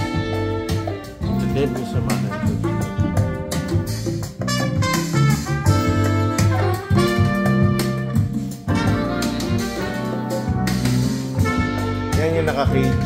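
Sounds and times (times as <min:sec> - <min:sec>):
jazz with brass and drums: 0:00.0 - 0:13.0.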